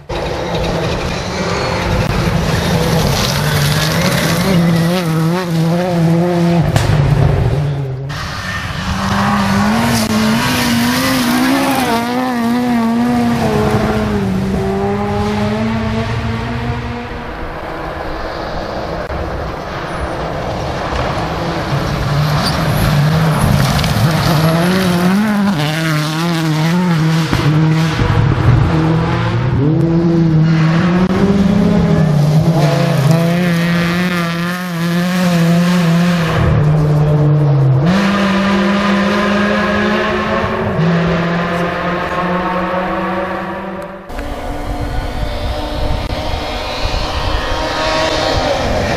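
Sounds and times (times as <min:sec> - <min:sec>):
rally car engines at high revs: 0:00.0 - 0:48.9.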